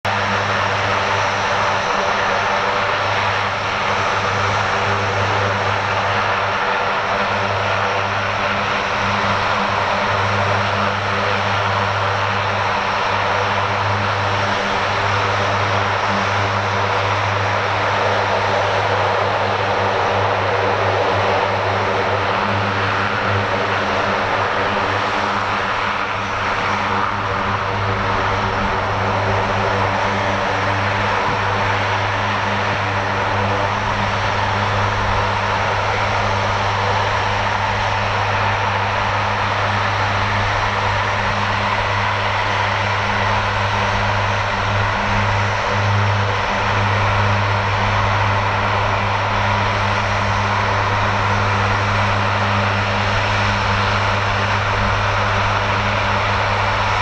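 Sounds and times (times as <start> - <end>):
propeller engines droning: 0.0 - 57.0.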